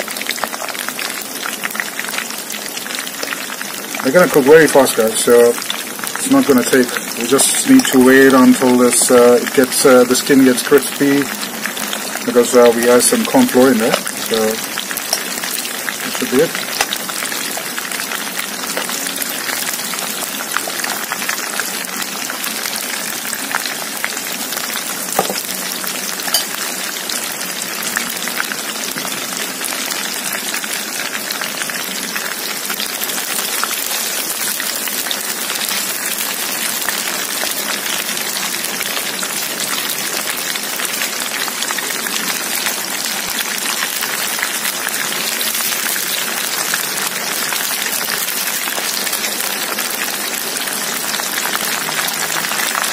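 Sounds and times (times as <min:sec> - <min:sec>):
prawns deep-frying in oil: 0:00.0 - 0:52.9.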